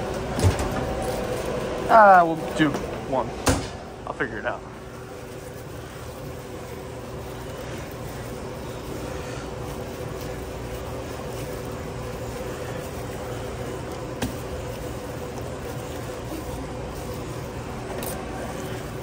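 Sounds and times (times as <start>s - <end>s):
restaurant equipment humming: 0.0s - 19.0s.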